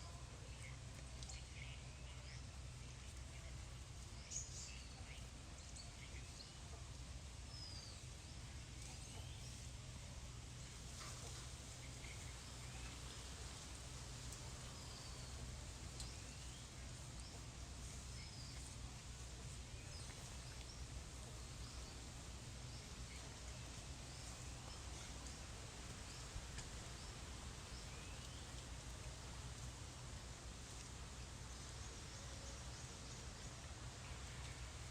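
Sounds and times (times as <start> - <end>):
faint background hiss: 0.0 - 34.9.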